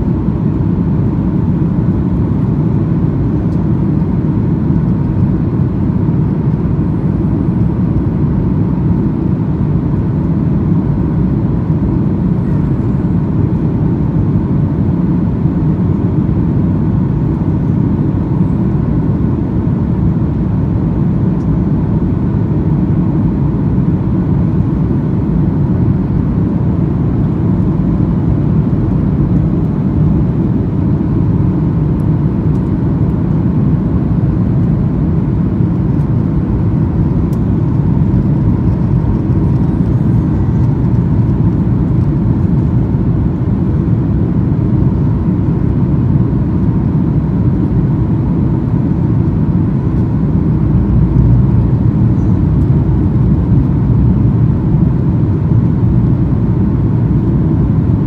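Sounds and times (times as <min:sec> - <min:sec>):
airplane cabin engine rush: 0:00.0 - 0:58.0
faint steady whine: 0:00.0 - 0:58.0.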